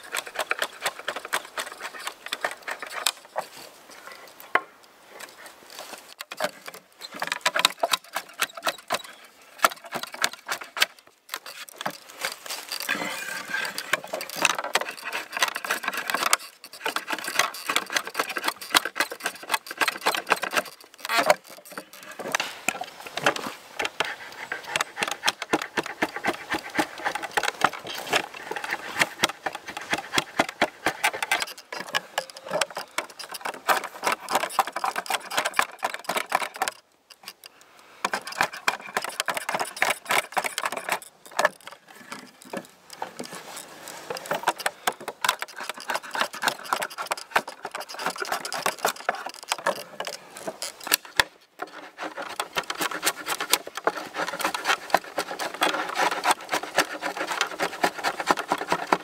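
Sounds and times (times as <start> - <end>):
drawknife scraping wood: 0.0 - 4.2, 5.8 - 37.4, 38.0 - 59.0.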